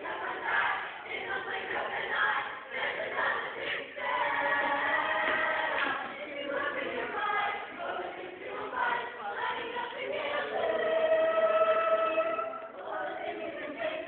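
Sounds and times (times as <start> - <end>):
chorus of young voices singing: 0.0 - 14.0.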